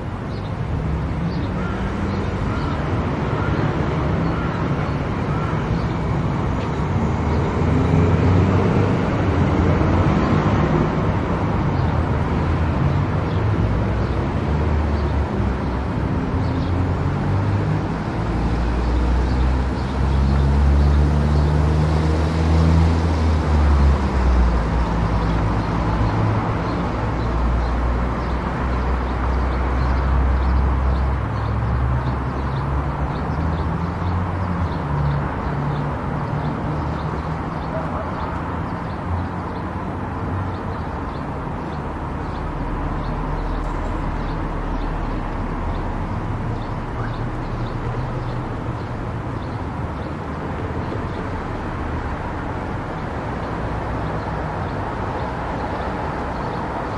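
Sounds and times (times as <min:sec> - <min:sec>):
car engine and tyre noise: 0:00.0 - 0:56.9.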